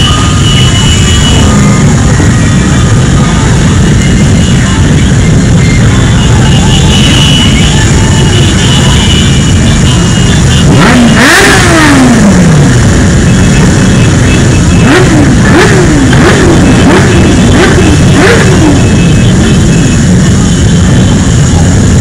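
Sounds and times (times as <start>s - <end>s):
motorcycle engine revving: 0.0s - 22.0s
motorcycle engines running: 0.0s - 22.0s.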